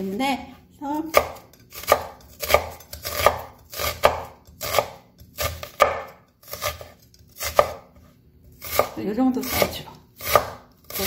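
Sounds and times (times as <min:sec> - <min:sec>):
knife slicing onion on board: 0:00.9 - 0:11.0.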